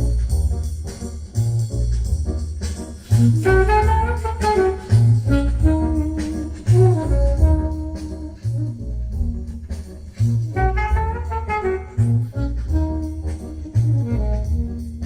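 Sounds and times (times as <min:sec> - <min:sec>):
heavy repeating bass notes: 0:00.0 - 0:15.0
music through speakers: 0:00.0 - 0:15.0.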